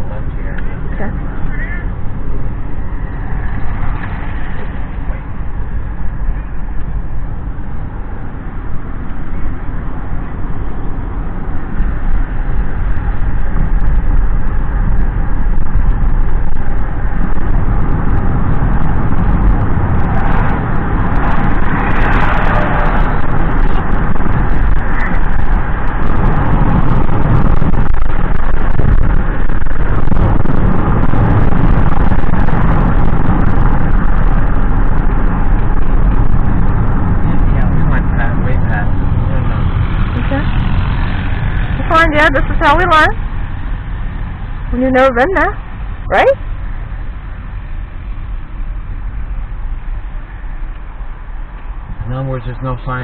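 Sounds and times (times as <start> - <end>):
bus passing: 0.0 - 53.0
road and engine noise in car: 0.0 - 53.0.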